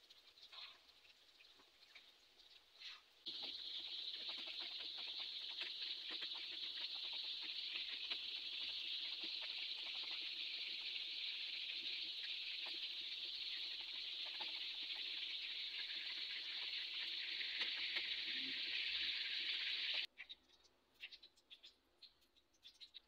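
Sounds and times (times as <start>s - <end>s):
chicken deep-frying in oil: 0.0s - 20.4s.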